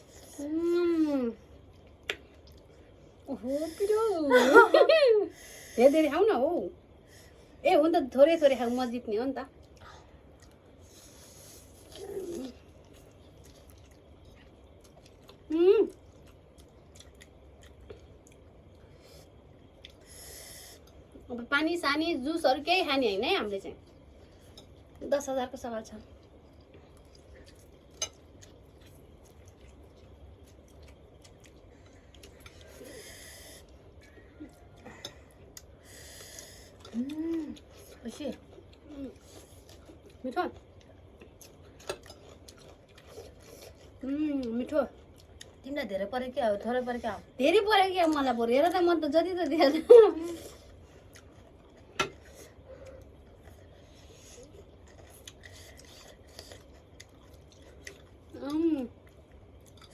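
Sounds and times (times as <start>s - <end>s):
faint chewing: 0.0s - 4.0s, 8.5s - 21.4s, 23.5s - 46.0s, 46.6s - 59.9s.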